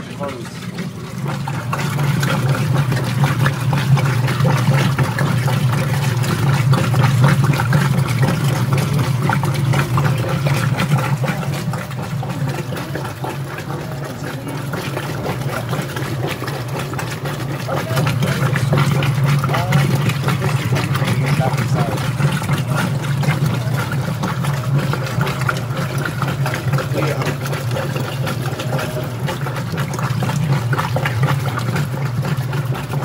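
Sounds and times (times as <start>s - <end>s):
washing machine motor humming: 0.0s - 33.0s
water sloshing in tub: 0.0s - 33.0s.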